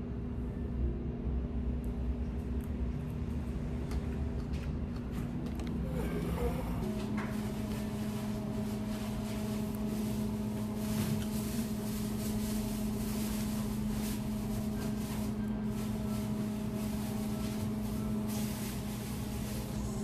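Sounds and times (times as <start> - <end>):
appliance humming: 0.0 - 20.0.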